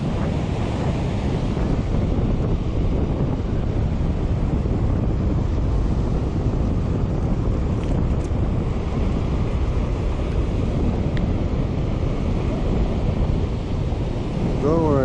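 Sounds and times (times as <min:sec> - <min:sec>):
breaking surf: 0:00.0 - 0:15.0
wind buffeting microphone: 0:00.0 - 0:15.0.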